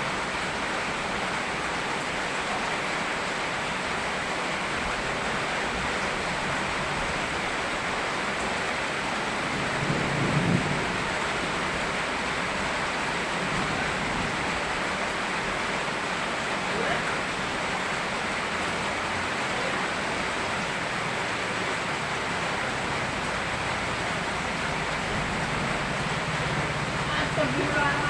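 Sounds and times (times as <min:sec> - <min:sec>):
river water flowing: 0:00.0 - 0:10.0, 0:10.8 - 0:28.0
rain: 0:00.0 - 0:28.0.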